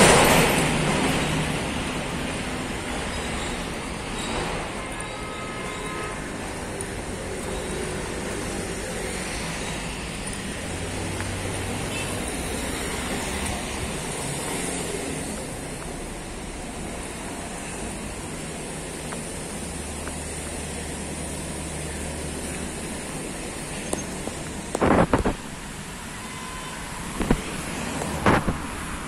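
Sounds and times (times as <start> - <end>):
road traffic noise: 0.0 - 29.0.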